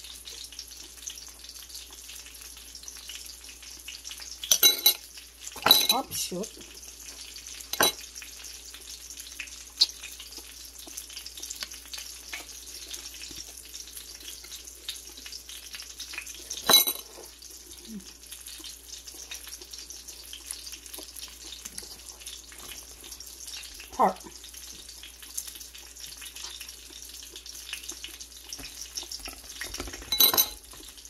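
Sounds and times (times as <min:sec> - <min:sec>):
oil frying in a pan: 0:00.0 - 0:31.0.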